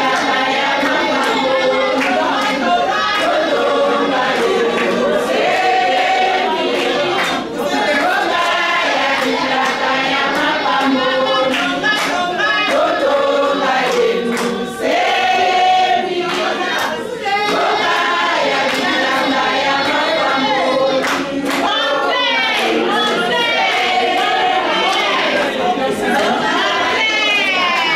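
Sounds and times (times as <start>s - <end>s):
women's choir singing: 0.0s - 27.9s.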